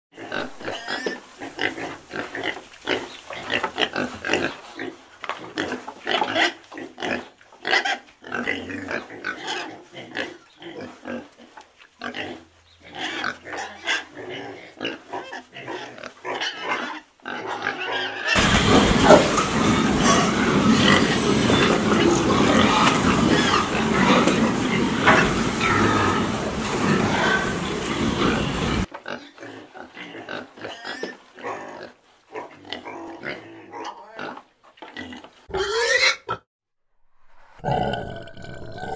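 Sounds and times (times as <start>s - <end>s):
pigs grunting and squealing: 0.2s - 36.5s, 37.5s - 38.9s.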